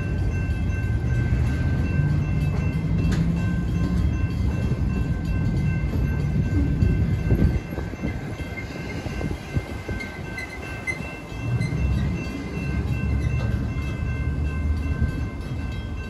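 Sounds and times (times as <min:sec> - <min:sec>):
freight cars knocking and clanking: 0:00.0 - 0:16.0
train wheels rumbling on rails: 0:00.0 - 0:16.0.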